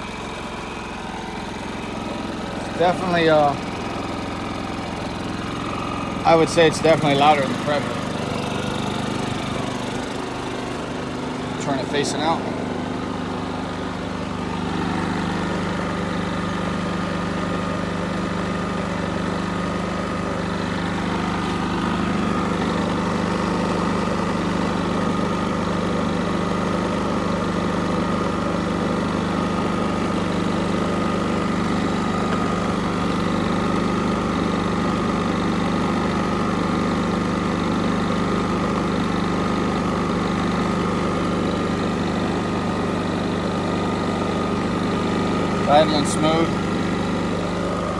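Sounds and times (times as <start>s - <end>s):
generator engine idling: 0.0s - 47.9s.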